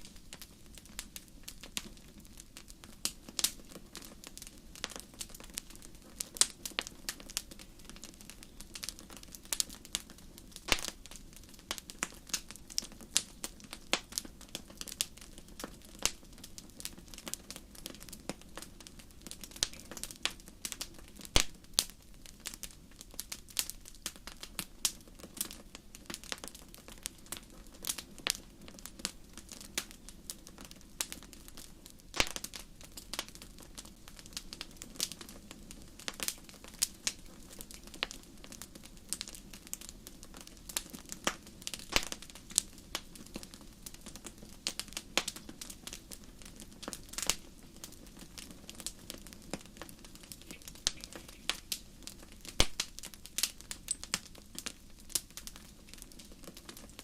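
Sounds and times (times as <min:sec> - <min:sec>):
campfire crackling and popping: 0:00.0 - 0:57.0
low rumble of flames: 0:00.0 - 0:57.0.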